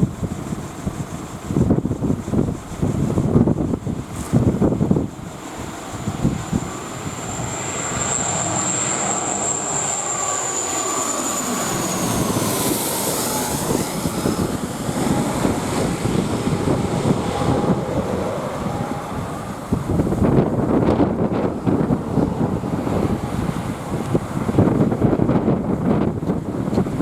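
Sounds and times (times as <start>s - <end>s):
turboprop plane passing overhead: 0.0s - 27.0s
wind buffeting microphone: 0.0s - 27.0s.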